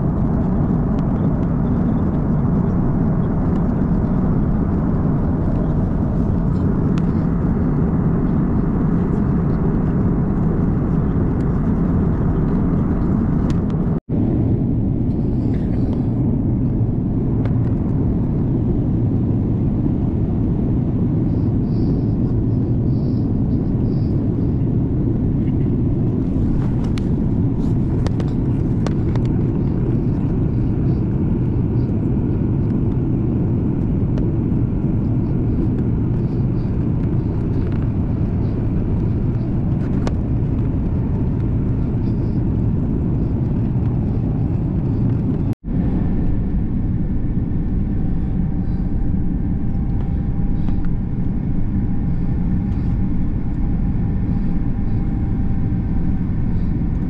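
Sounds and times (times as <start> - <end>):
faint steady whine: 0.0 - 57.0
jet engines roaring in cabin: 0.0 - 57.0.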